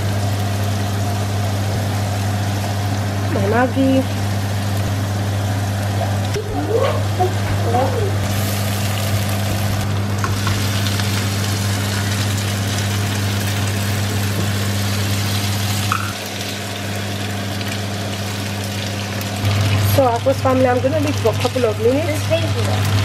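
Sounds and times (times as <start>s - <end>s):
sauce sizzling in a frying pan: 0.0s - 23.0s.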